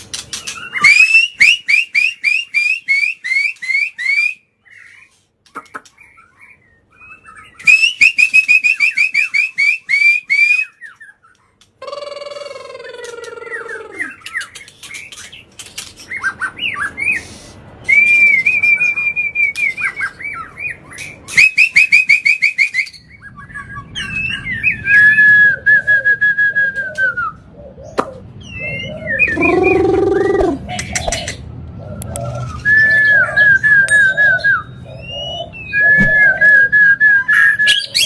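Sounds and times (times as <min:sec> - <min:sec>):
bird singing whistles and clicks: 0:00.1 - 0:04.4, 0:05.4 - 0:06.3, 0:07.4 - 0:16.4, 0:17.8 - 0:27.4, 0:29.2 - 0:31.4, 0:32.0 - 0:34.7, 0:35.6 - 0:38.0.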